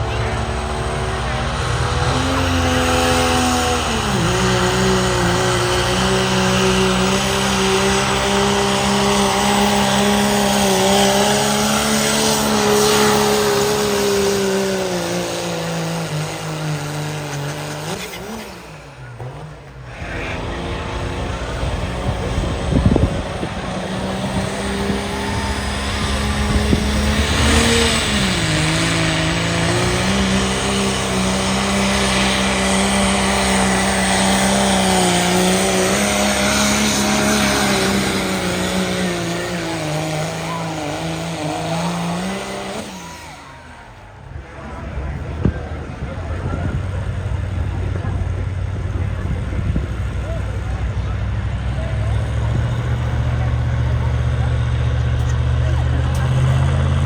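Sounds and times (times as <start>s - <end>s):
big engine running under load: 0.0s - 57.0s.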